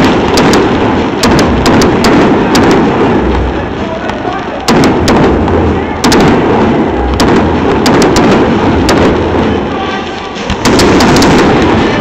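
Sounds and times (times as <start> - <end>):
continuous rumble: 0.0 - 12.0
fireworks bangs and crackles: 0.0 - 12.0.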